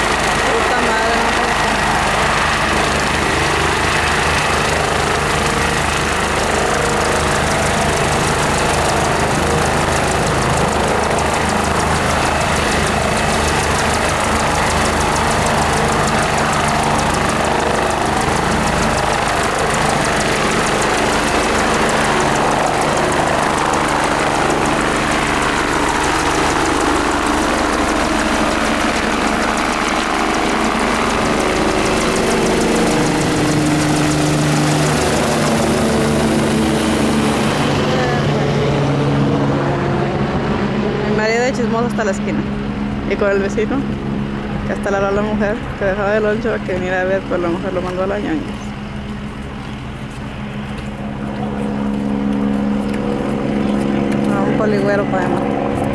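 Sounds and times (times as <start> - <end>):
helicopter turbine and rotor: 0.0 - 55.9.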